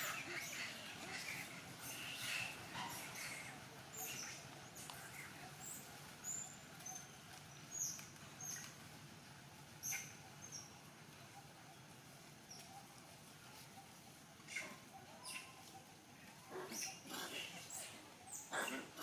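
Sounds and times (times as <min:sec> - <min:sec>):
soft outdoor hiss: 0:00.0 - 0:19.0.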